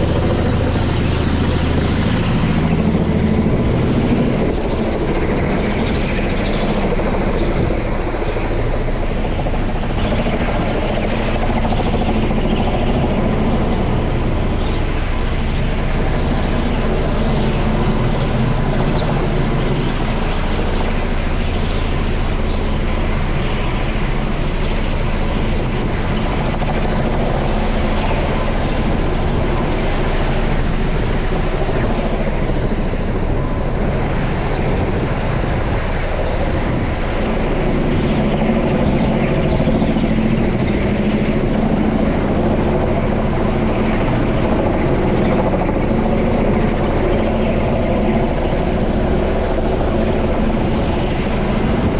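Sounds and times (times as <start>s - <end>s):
helicopter flying overhead: 0.0s - 51.9s.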